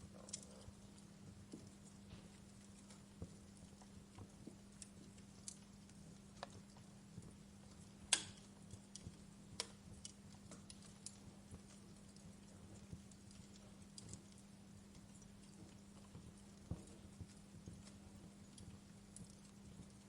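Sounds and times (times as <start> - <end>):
faint steady hum: 0.0 - 20.0
fireplace crackling: 0.0 - 20.0.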